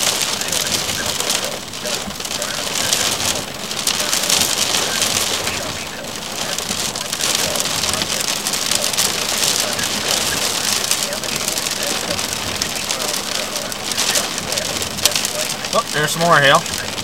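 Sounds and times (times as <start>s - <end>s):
heavy rain on car roof: 0.0s - 17.0s.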